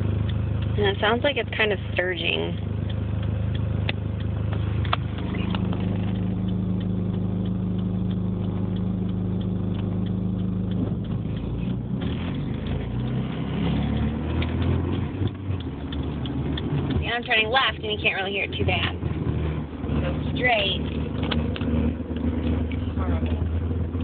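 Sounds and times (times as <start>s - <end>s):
car engine idling with low thrumming: 0.0s - 24.0s.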